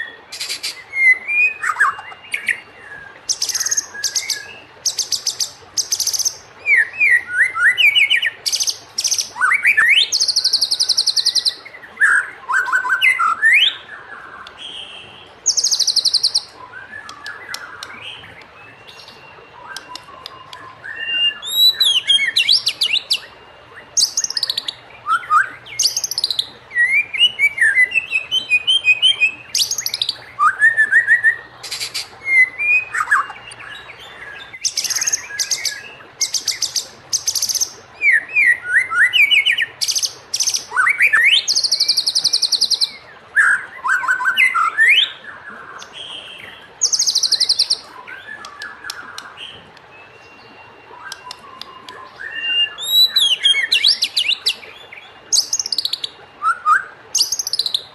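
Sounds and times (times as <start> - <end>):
bird singing whistled phrases: 0.0 - 57.9
harsh buzzy bird trills: 0.0 - 57.9.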